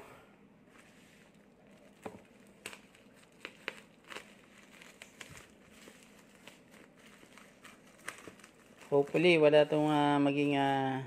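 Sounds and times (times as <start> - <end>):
bubble wrap crinkling: 0.6 - 11.0.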